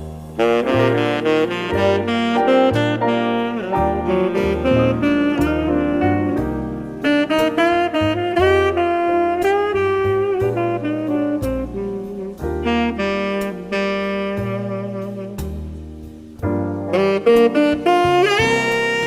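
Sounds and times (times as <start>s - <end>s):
bass line: 0.0s - 19.0s
jazzy saxophone melody: 0.0s - 19.0s.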